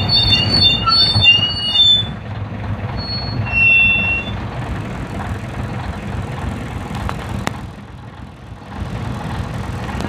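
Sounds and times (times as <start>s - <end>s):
diesel bus engine running: 0.0s - 10.0s.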